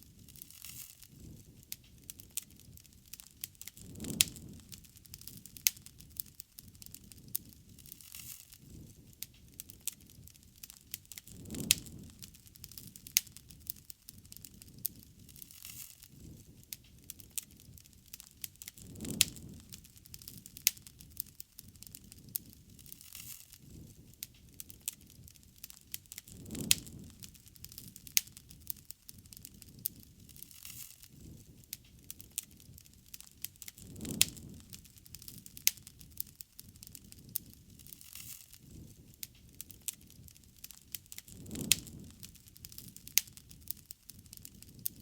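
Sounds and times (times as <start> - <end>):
bonfire crackling and popping: 0.0 - 45.0
low surge of flame noise: 0.0 - 45.0.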